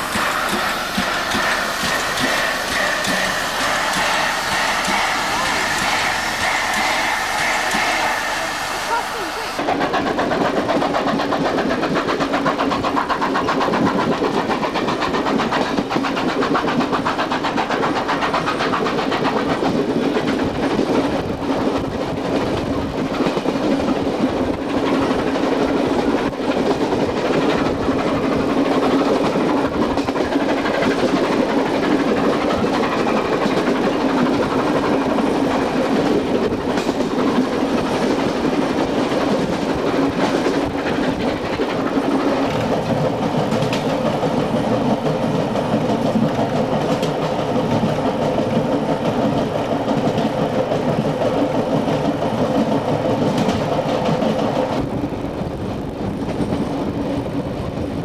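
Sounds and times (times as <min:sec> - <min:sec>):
steam locomotive working: 0:00.0 - 0:58.0
train running on track: 0:00.0 - 0:58.0.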